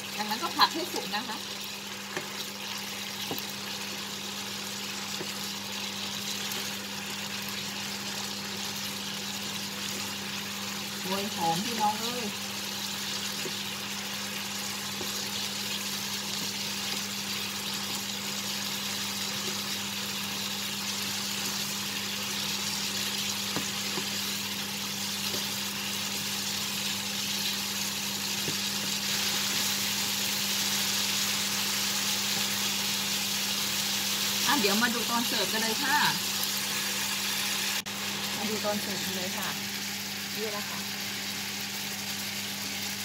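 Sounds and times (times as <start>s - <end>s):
food sizzling in frying pan: 0.0s - 43.0s.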